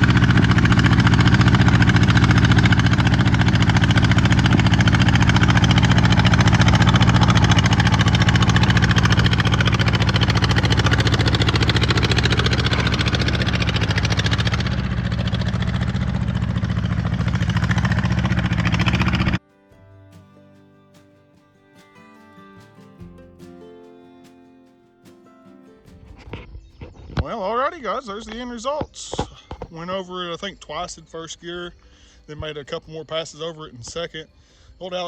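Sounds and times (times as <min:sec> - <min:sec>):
tractor engine running: 0:00.0 - 0:31.4.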